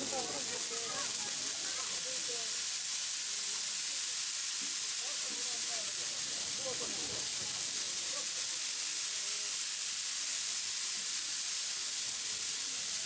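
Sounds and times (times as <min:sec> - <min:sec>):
electrical discharge hissing: 0:00.0 - 0:13.0.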